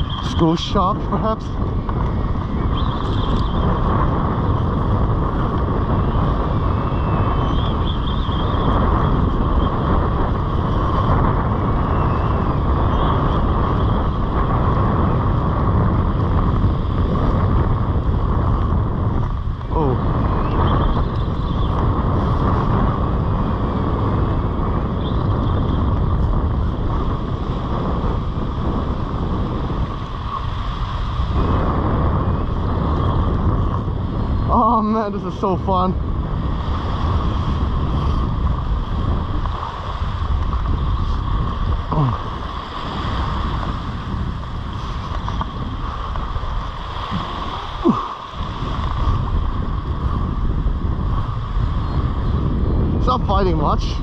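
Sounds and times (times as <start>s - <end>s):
surf washing on beach: 0.0s - 54.0s
wind buffeting microphone: 0.0s - 54.0s.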